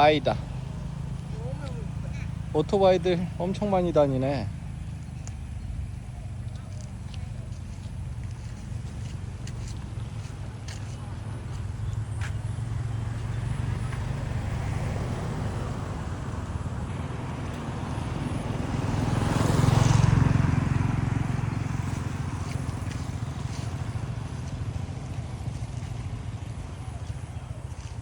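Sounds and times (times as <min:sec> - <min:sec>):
low engine hum: 0:00.0 - 0:28.0
vehicle passing close: 0:00.0 - 0:28.0.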